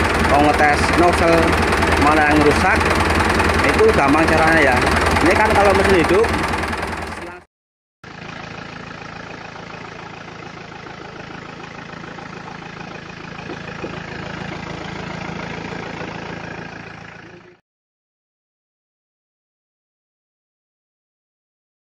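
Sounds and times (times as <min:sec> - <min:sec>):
diesel engine idling: 0:00.0 - 0:17.6.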